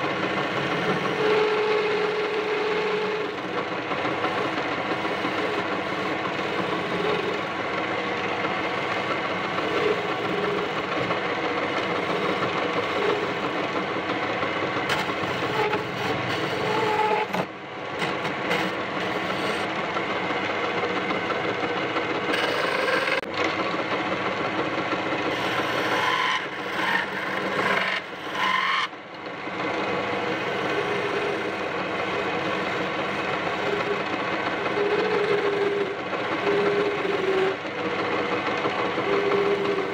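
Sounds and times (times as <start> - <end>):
tool scraping spinning wood: 0.0 - 39.9
wood lathe hum: 0.0 - 39.9.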